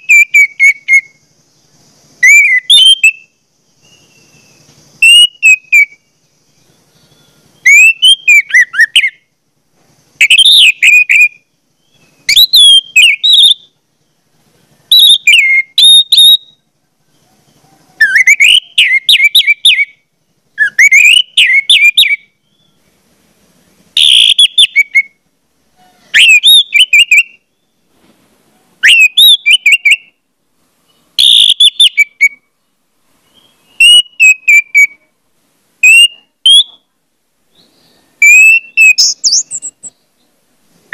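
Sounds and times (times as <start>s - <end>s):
bird whistling song: 0.0s - 9.3s, 10.1s - 22.9s, 24.0s - 27.9s, 28.8s - 30.2s, 30.8s - 32.6s, 33.2s - 35.1s, 35.8s - 36.9s, 37.5s - 40.3s.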